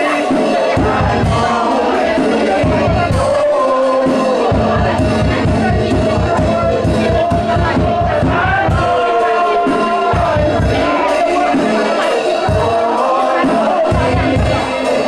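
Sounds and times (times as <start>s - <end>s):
crowd singing and crying out: 0.0s - 15.0s
fast driving drumbeat: 0.0s - 15.0s.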